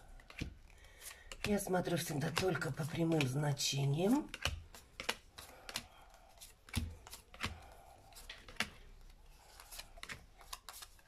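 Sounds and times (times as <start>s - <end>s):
cards flicking and tapping: 0.0s - 3.5s, 4.1s - 11.0s.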